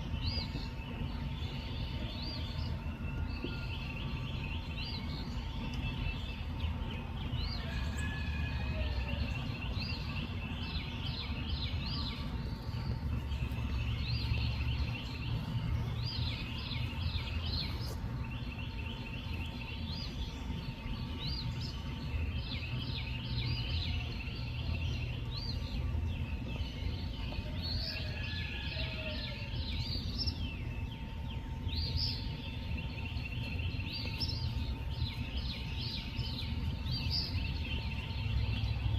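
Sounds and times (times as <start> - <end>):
faint steady hum: 0.0 - 38.9
high chirping and trilling calls: 0.0 - 38.9
low steady rumble: 0.0 - 38.9.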